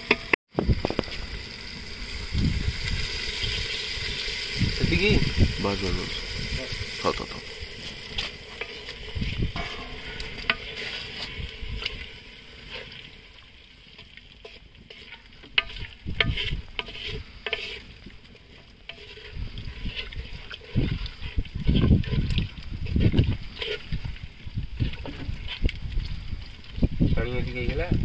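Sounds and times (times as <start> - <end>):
steady sizzle: 0.0 - 28.0
spoon stirring frying meat: 1.8 - 27.2.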